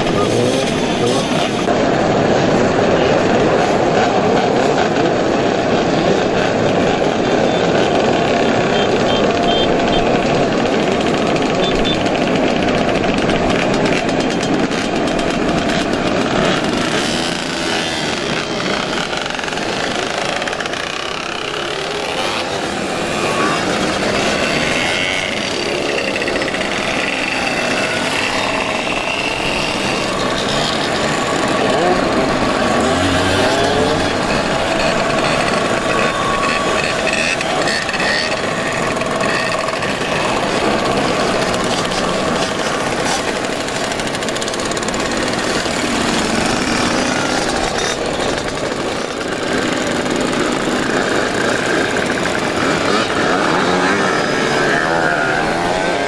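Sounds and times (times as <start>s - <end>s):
many small engines rattling: 0.0s - 56.0s
motorcycle revving past: 6.2s - 56.0s.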